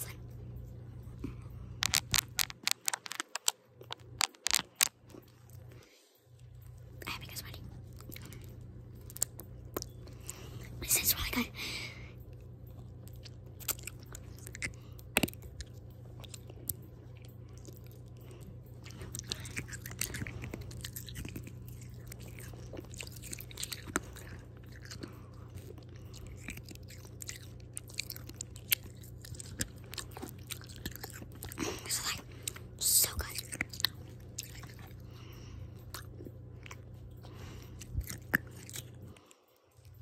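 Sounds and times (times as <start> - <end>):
steady low hum: 0.0 - 40.0
chewing hard candy: 1.0 - 11.4, 12.0 - 40.0.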